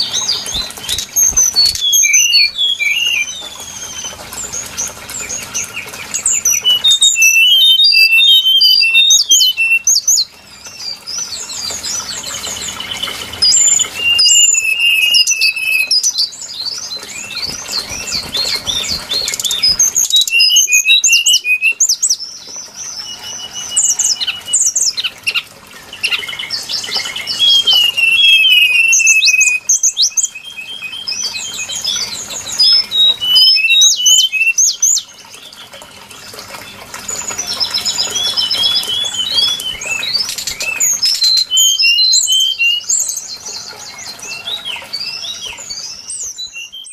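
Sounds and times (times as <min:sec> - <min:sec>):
bird song high whistled notes: 0:00.0 - 0:04.6, 0:05.2 - 0:25.0, 0:26.0 - 0:35.1, 0:37.4 - 0:43.3, 0:44.0 - 0:46.9.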